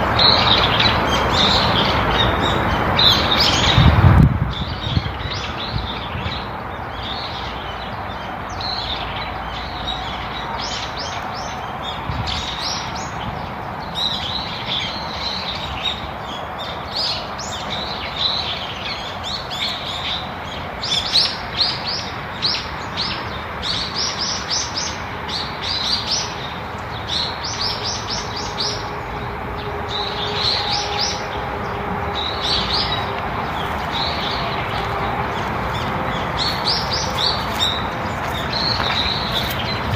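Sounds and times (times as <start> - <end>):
songbirds chirping: 0.0 - 39.9
steady outdoor hiss: 0.0 - 39.9.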